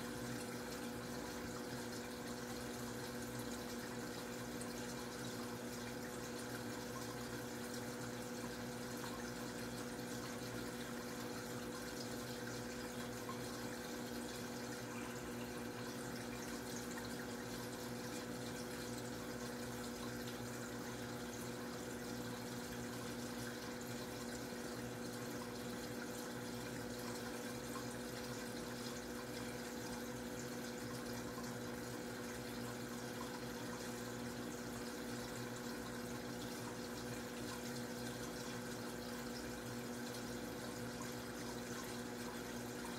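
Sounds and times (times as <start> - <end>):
water trickling: 0.0 - 42.9.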